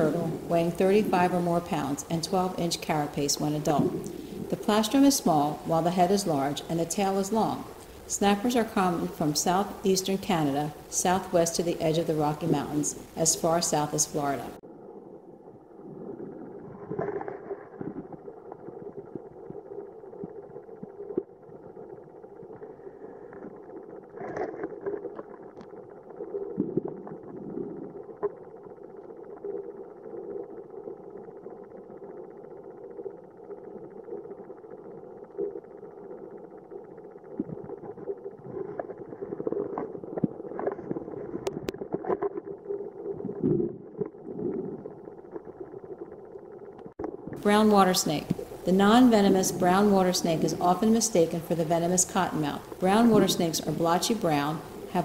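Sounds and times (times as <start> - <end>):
low underwater hum: 0.0 - 55.0.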